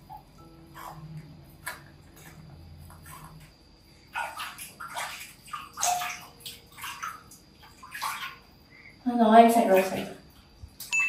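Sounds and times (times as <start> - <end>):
water splashing in a basin: 0.0 - 11.0.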